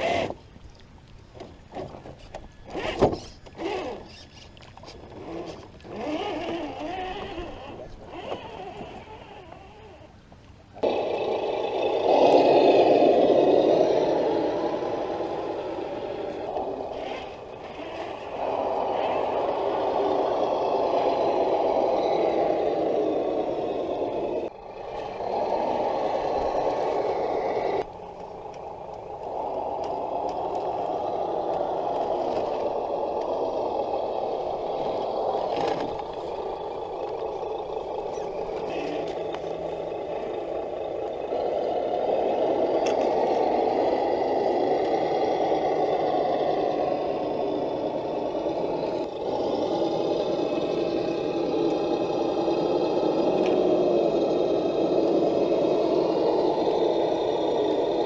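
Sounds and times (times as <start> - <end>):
rc truck motors whining: 0.0 - 0.4, 2.2 - 10.2, 10.8 - 58.0.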